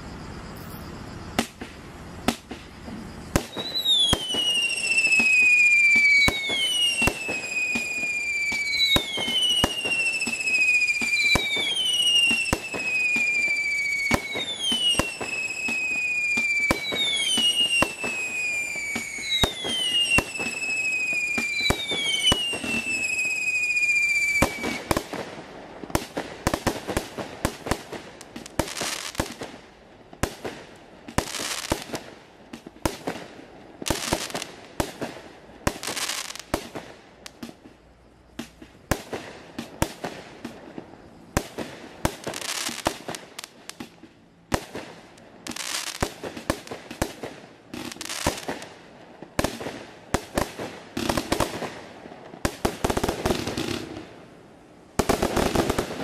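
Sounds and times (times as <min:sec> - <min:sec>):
firework whistles: 0:00.0 - 0:54.4, 0:55.0 - 0:56.0
firework cracks and hissing: 0:01.3 - 0:56.0
firework bangs: 0:01.4 - 0:37.8, 0:38.4 - 0:54.3, 0:54.9 - 0:56.0.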